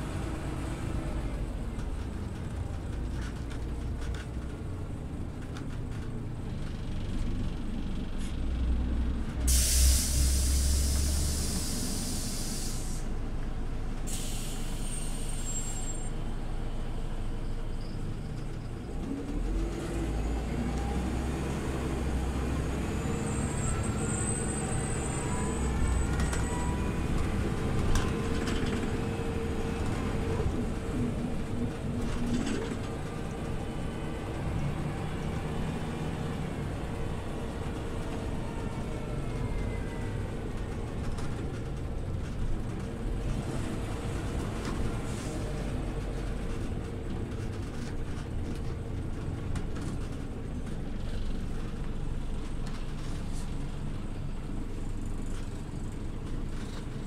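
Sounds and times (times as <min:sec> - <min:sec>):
bus engine rumble and whine: 0:00.0 - 0:57.0.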